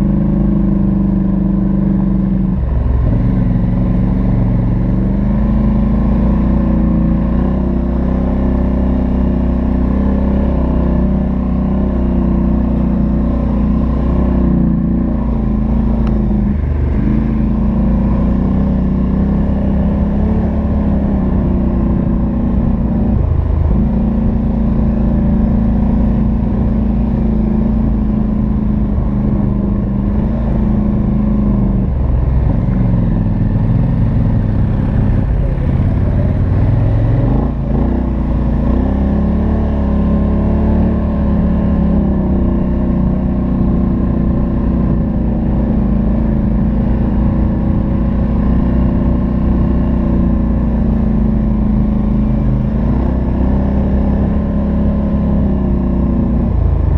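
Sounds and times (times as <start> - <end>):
vehicle engine running: 0.0 - 8.3, 11.2 - 56.9.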